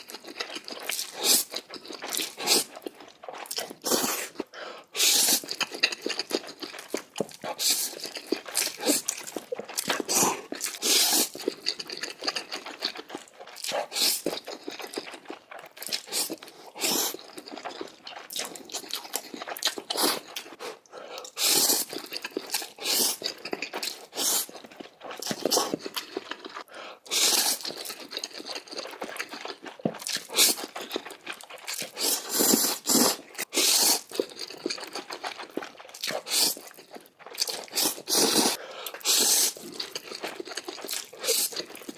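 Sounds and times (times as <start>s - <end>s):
wet chewing: 0.0s - 41.9s
slurping noodles: 0.7s - 41.9s.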